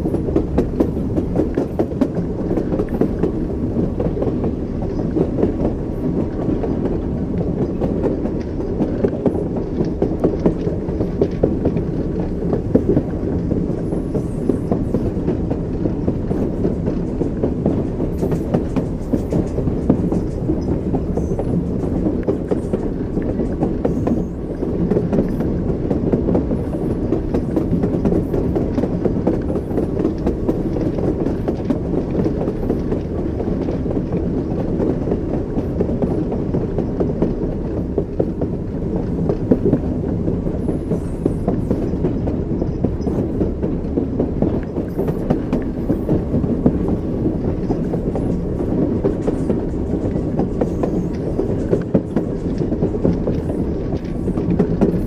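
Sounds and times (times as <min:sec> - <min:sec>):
railway carriage rumbling: 0:00.0 - 0:55.0
wheels clickety-clack over joints: 0:00.0 - 0:55.0.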